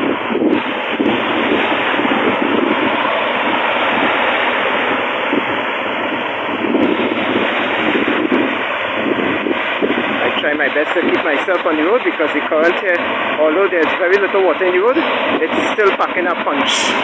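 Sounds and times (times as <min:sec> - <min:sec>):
car driving on wet road: 0:00.0 - 0:17.0.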